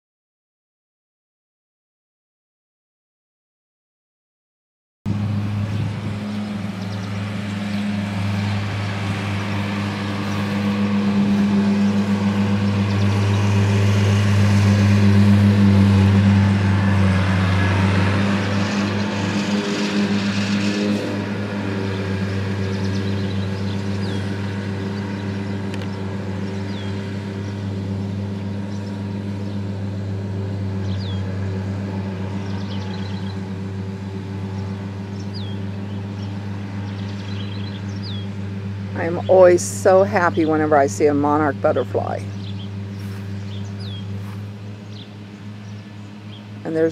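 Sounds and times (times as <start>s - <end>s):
engine humming: 5.1s - 46.9s.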